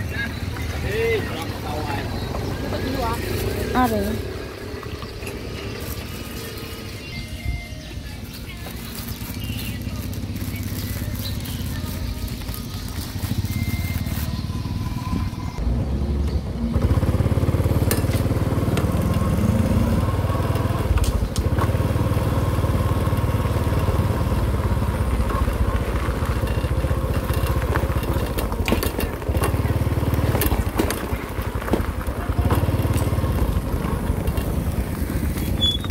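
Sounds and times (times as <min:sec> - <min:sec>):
small motorcycle engine running: 0:00.0 - 0:35.9.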